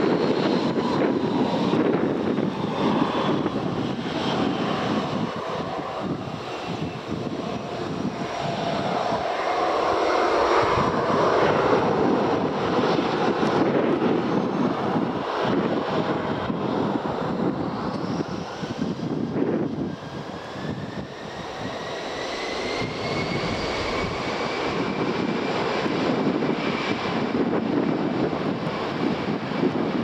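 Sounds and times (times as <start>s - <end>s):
airliner engines passing: 0.0s - 30.0s.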